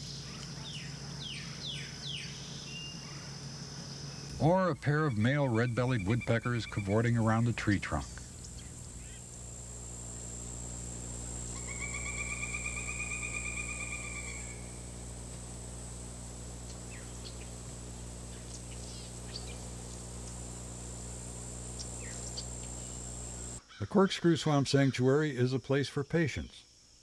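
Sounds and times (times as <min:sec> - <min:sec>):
high-pitched insect drone: 0:00.0 - 0:23.6.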